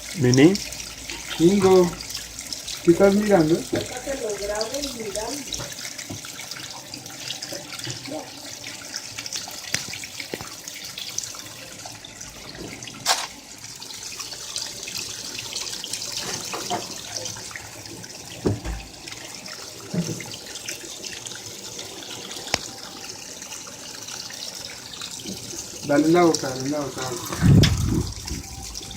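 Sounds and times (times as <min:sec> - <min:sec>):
water sloshing in washing machine: 0:00.0 - 0:28.9.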